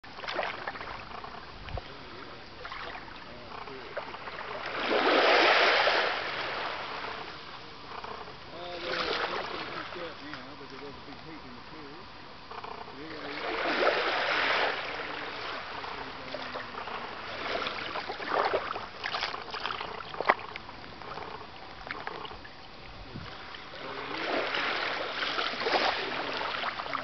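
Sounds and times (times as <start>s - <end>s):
sea water lapping at shoreline: 0.0s - 27.0s.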